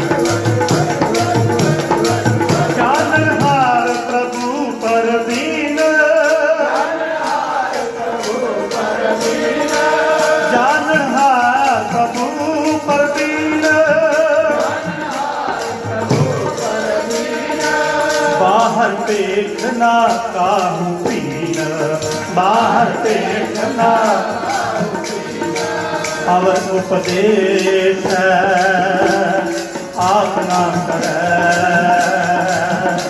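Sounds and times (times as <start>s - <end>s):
harmonium tones: 0.0s - 33.0s
jingling percussion: 0.0s - 33.0s
person singing: 0.0s - 33.0s.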